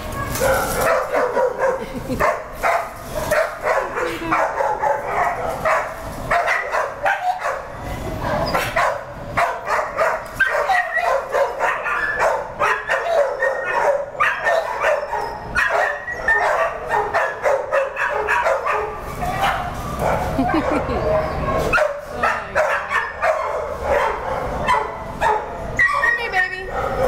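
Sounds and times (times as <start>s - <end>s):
dogs barking in kennels: 0.0s - 27.0s.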